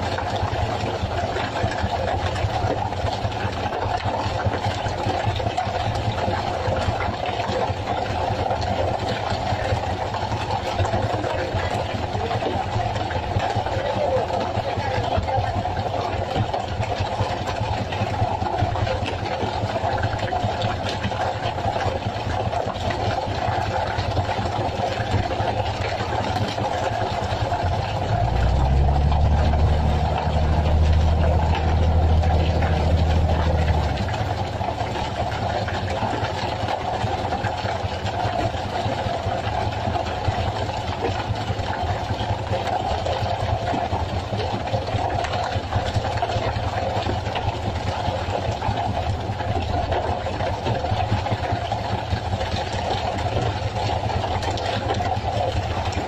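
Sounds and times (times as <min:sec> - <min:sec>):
engine running: 0:00.0 - 0:56.0
deep loud hum: 0:07.6 - 0:56.0.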